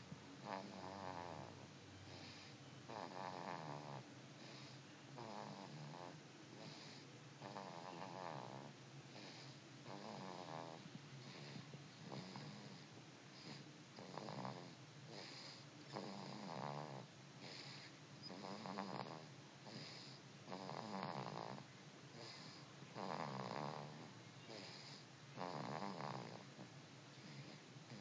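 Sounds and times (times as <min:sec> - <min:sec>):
rattling snore: 0:00.4 - 0:28.0.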